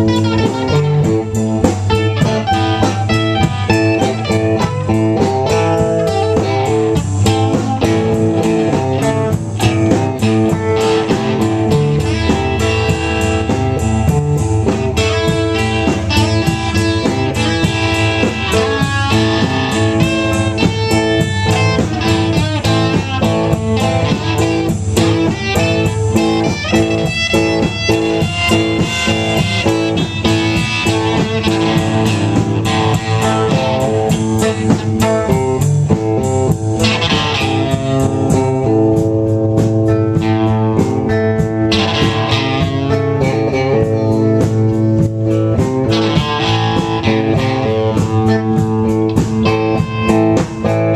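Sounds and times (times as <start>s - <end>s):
blues electric guitar: 0.0s - 50.9s.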